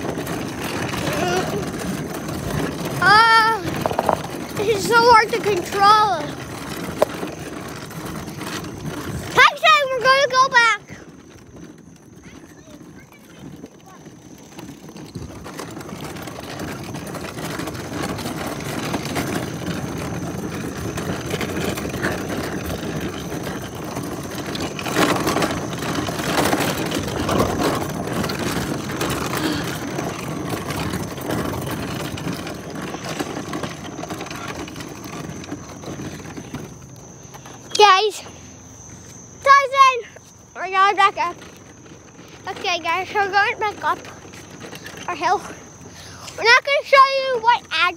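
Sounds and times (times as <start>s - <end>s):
wheels rolling over rough asphalt: 0.0s - 47.9s.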